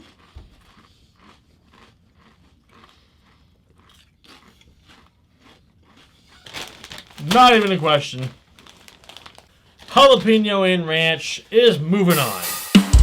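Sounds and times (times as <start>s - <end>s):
faint crunching of potato chips: 0.0s - 10.4s.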